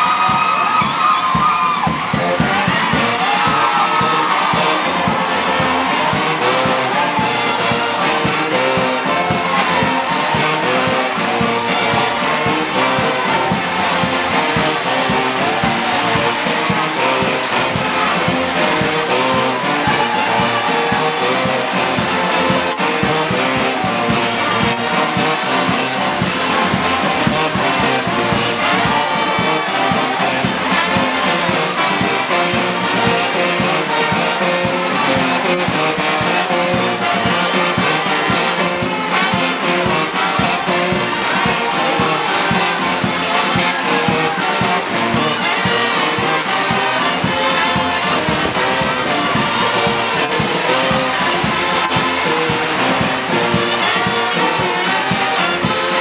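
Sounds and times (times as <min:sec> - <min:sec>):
brass band music: 0:00.0 - 0:56.0.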